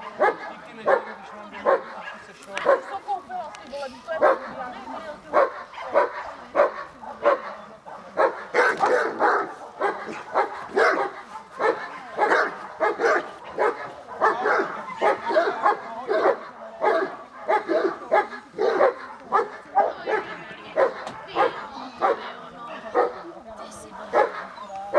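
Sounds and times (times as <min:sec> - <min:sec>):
large dog barking deeply: 0:00.0 - 0:02.9, 0:04.2 - 0:24.6.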